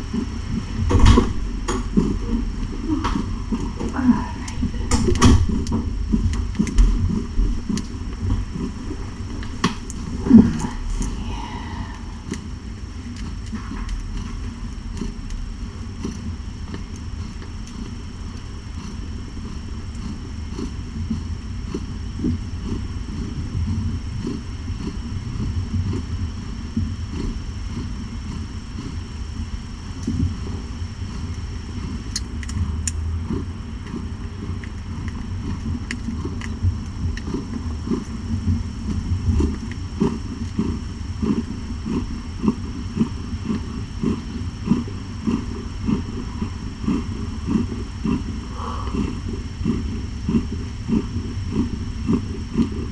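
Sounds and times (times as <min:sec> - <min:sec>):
cat purring: 0:00.0 - 0:32.1, 0:33.2 - 0:52.9.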